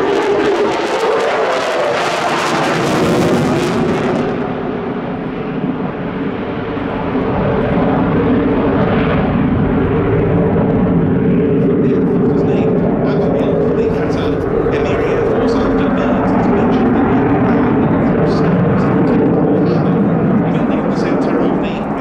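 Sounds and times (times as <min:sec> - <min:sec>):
jet fighter engines roaring: 0:00.0 - 0:22.0.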